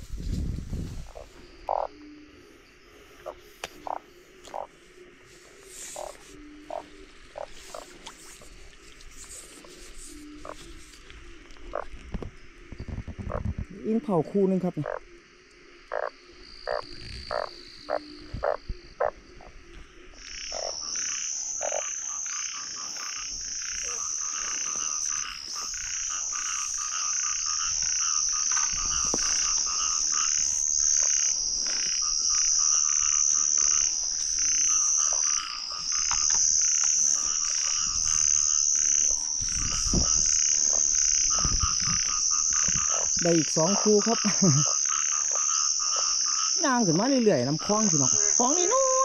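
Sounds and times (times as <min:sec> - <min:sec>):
frog chorus: 0:00.7 - 0:49.0
single frog calling: 0:01.0 - 0:02.2, 0:03.1 - 0:04.7, 0:05.9 - 0:07.9, 0:10.3 - 0:10.7, 0:11.5 - 0:12.3, 0:13.2 - 0:15.2, 0:15.8 - 0:49.0.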